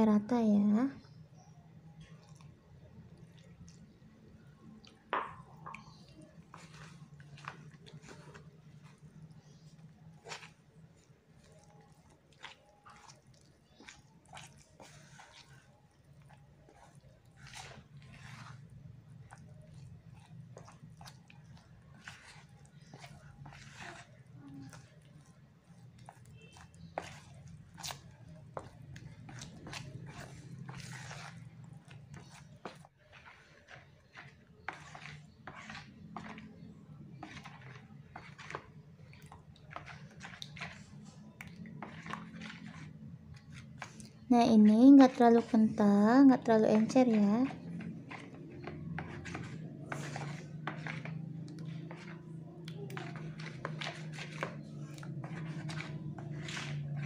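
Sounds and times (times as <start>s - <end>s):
hand squishing batter in bowl: 0.0s - 57.0s.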